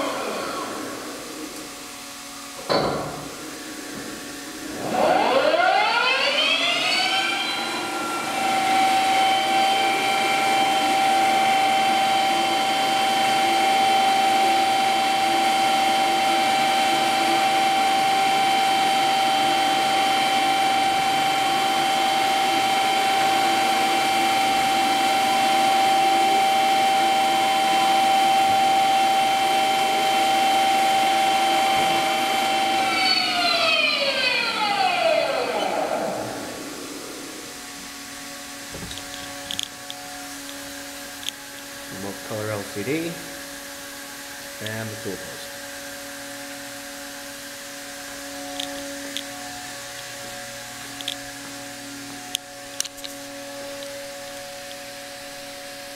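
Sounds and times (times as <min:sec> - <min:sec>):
lathe spindle whine: 0:00.0 - 0:55.9.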